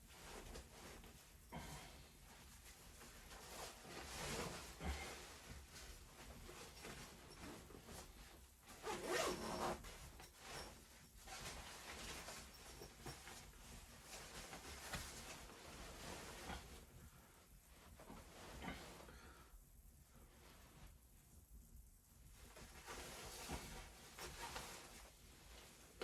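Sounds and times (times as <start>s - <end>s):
rustling and scraping handling: 0.0s - 19.4s, 20.1s - 26.0s.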